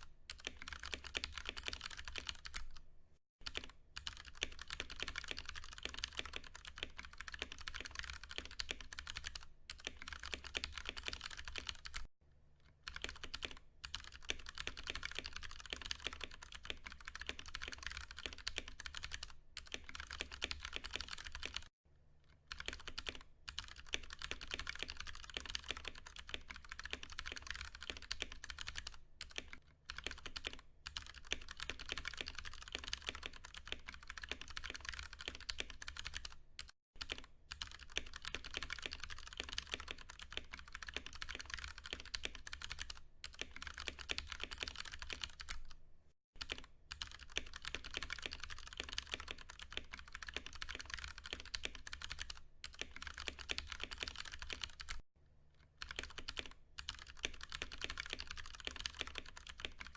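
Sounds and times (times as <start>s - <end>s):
mechanical keyboard typing: 0.3s - 2.8s, 3.4s - 12.1s, 12.8s - 21.7s, 22.5s - 45.8s, 46.4s - 55.0s, 55.8s - 59.9s.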